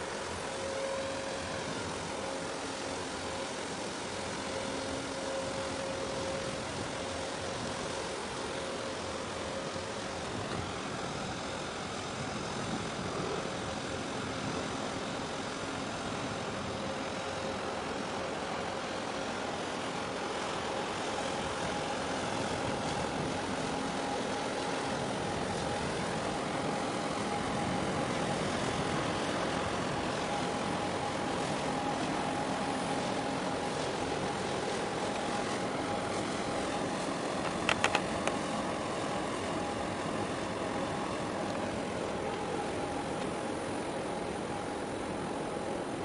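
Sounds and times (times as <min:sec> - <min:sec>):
faint whine: 0:00.0 - 0:46.0
ship engine drone: 0:00.0 - 0:46.0.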